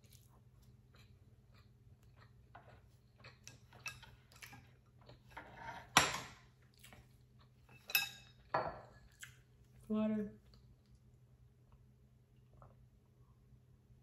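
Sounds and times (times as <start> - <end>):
soft chewing and mouth clicks: 0.0 - 5.4, 6.5 - 13.3.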